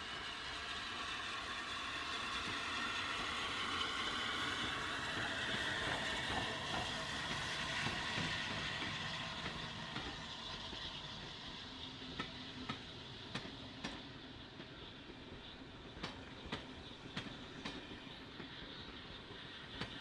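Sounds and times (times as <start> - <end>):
steam locomotive running past: 0.0 - 20.0
coach wheels clicking over rail joints: 0.9 - 20.0.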